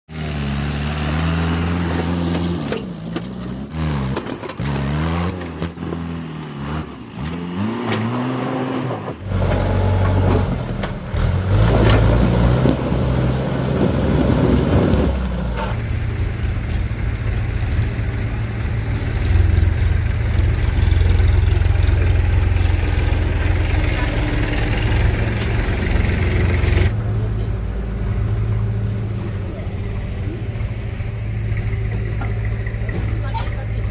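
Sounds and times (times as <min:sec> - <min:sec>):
diesel tractor engines running: 0:00.1 - 0:33.9.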